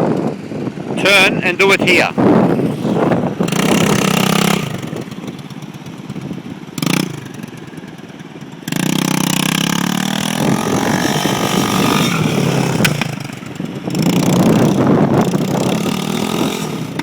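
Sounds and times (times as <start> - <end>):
motorcycle engine revving hard: 0.0 - 17.0
motorcycle engine idling: 2.1 - 17.0.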